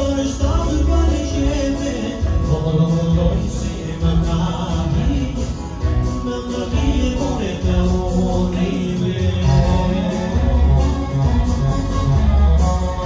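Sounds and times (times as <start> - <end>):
person singing: 0.0 - 12.2
wedding music with heavy bass beat: 0.0 - 13.0.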